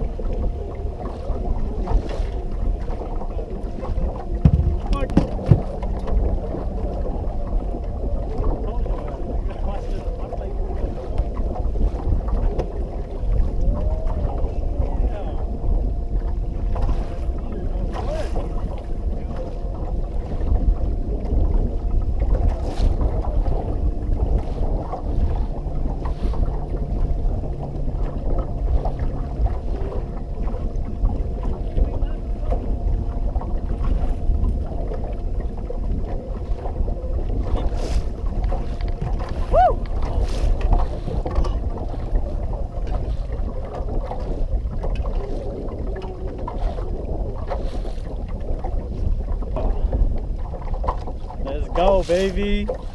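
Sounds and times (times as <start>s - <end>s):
boat motor hum: 0.0s - 52.9s
wind buffeting microphone: 0.0s - 52.9s.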